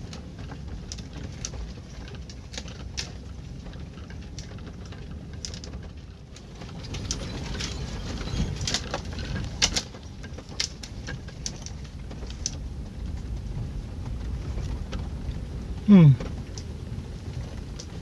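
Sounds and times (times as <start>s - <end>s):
clicks and rattles over bumps: 0.0s - 18.0s
van rumbling on dirt road: 0.0s - 18.0s.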